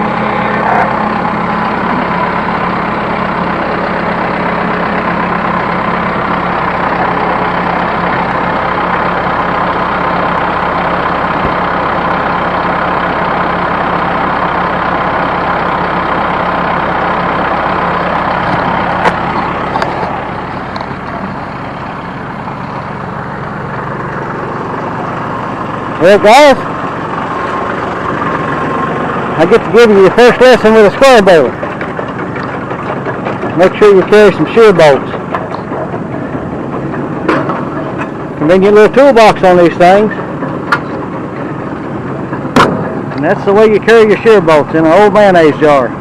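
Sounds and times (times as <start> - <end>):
diesel tractor engine running: 0.0 - 46.0.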